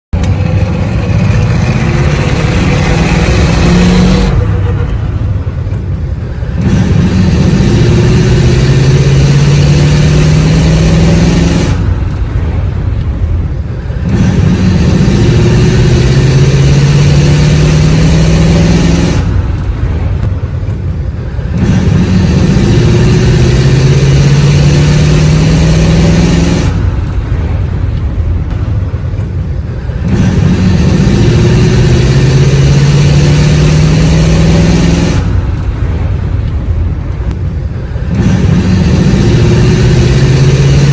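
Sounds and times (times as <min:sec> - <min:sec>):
car engine accelerating: 0:00.2 - 0:40.9.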